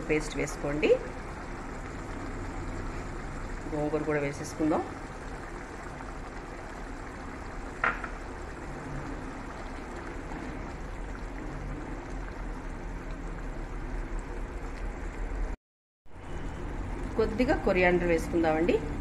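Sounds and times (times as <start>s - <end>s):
curry bubbling in a pan: 0.0s - 15.6s.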